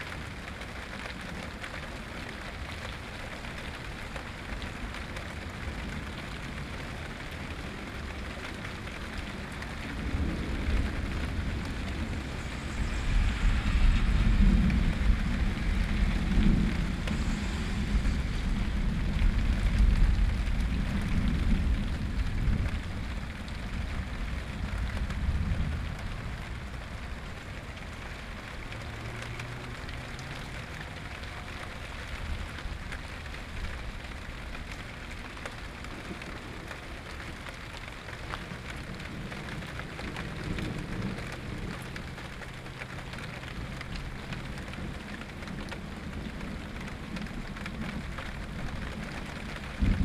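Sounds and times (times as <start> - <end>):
steady rain falling: 0.0 - 50.0
low rumble of thunder: 0.1 - 50.0.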